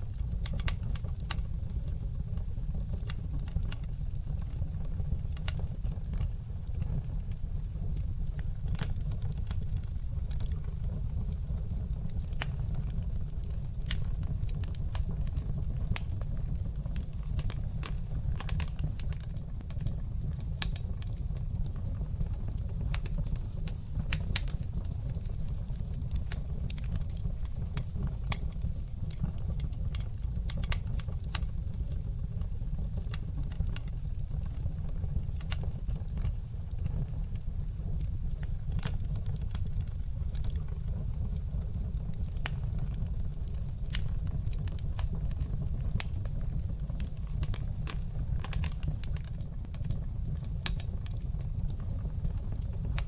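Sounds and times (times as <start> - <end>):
fire crackling and popping: 0.0 - 53.0
fire flames rumbling: 0.0 - 53.0.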